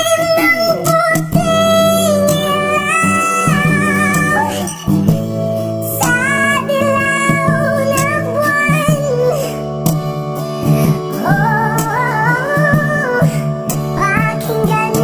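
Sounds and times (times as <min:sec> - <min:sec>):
pitched-up voice singing: 0:00.0 - 0:05.0, 0:05.9 - 0:09.6, 0:10.8 - 0:15.0
instrumental backing music: 0:00.0 - 0:15.0.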